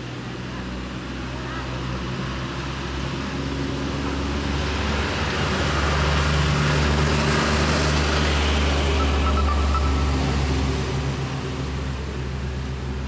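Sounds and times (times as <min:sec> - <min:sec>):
traffic noise: 0:00.0 - 0:13.0
vehicle engine running: 0:00.0 - 0:13.0.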